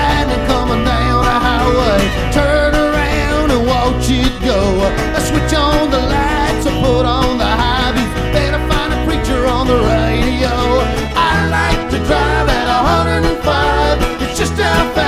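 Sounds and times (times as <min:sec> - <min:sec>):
country music with guitar: 0:00.0 - 0:15.0.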